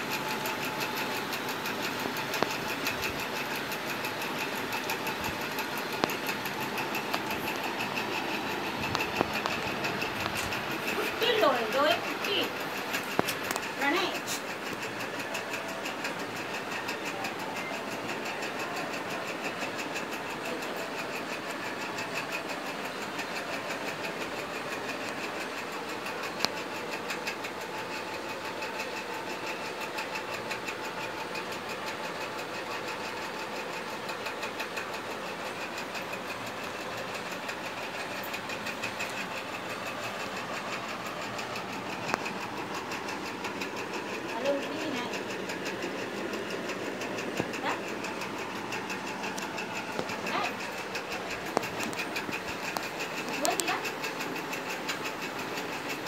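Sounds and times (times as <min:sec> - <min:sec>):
machine ticking rattle: 0:00.0 - 0:56.0.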